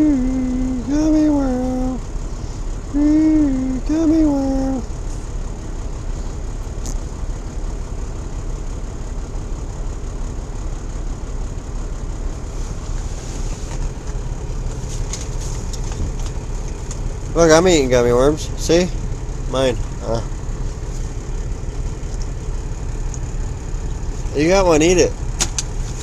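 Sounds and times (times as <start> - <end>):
truck diesel engine rumbling: 0.0 - 26.0.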